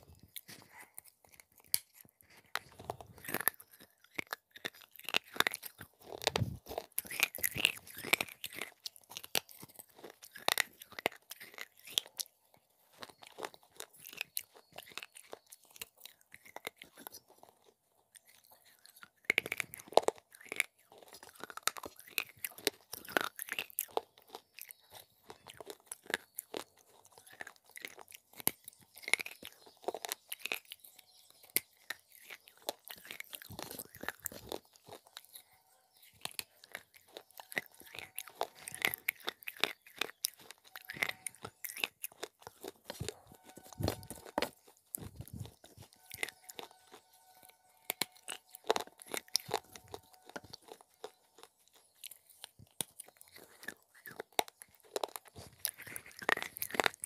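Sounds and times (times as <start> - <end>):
clay crunching while chewed: 0.0 - 57.0.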